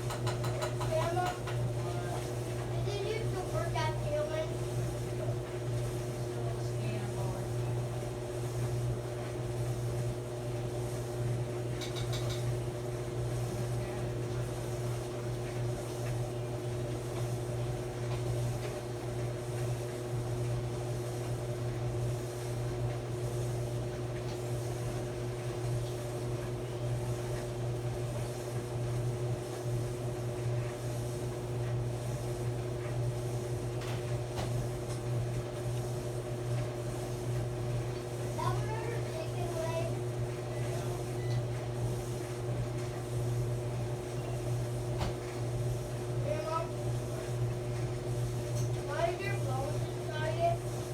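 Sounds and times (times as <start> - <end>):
clothes dryer motor hum: 0.0 - 50.9.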